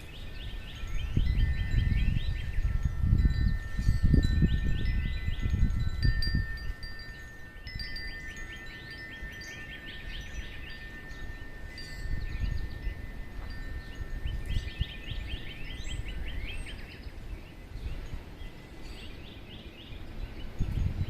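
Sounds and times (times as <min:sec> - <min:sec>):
wind chimes ringing: 0:00.0 - 0:21.0
wind rumbling on microphone: 0:00.0 - 0:21.0.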